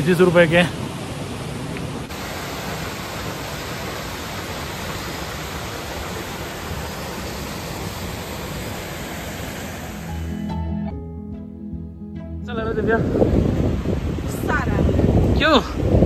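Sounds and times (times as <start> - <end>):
flowing water rushing: 0.0 - 10.6, 13.0 - 16.0.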